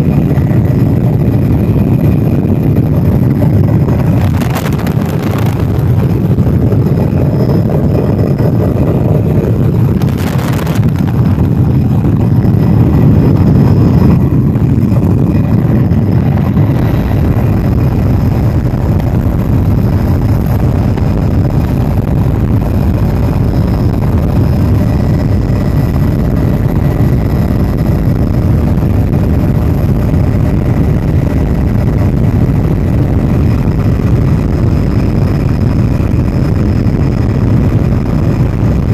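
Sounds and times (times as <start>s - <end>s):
faint high whine: 0.0s - 38.9s
helicopter engine and rotor rumble: 0.0s - 38.9s.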